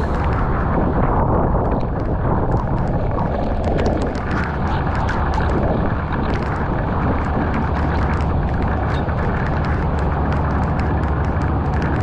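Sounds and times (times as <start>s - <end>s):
heavy rain on a flooded street: 0.0s - 12.0s
raindrops ticking close by: 0.0s - 12.0s.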